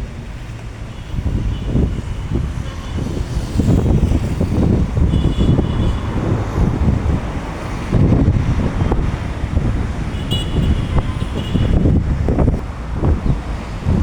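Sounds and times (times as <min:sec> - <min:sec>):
road traffic rumble: 0:00.0 - 0:14.0
wind buffeting microphone: 0:00.0 - 0:14.0.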